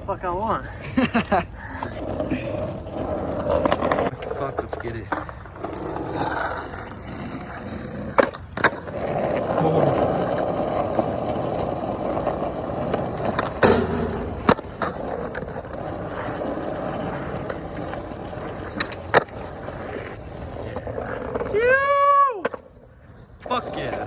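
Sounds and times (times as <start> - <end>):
skateboard rolling: 0.5 - 24.0
skateboard clacks: 1.8 - 24.0.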